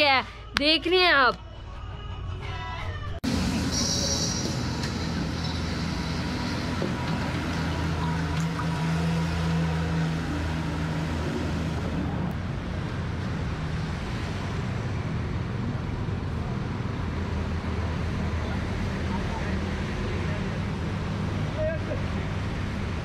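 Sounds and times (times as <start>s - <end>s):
passing vehicles rushing: 3.2s - 23.0s
vehicle engine running nearby: 3.2s - 23.0s.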